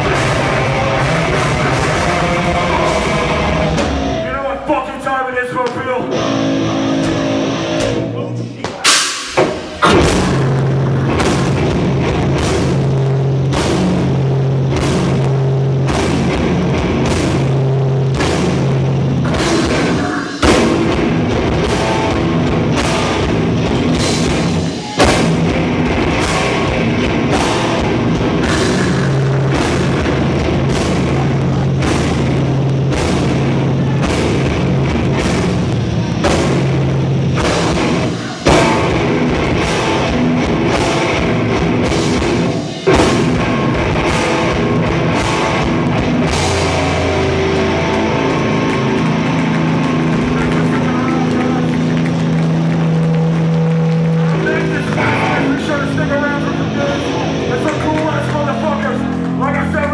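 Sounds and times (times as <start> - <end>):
heavy rock band playing live: 0.0 - 59.9.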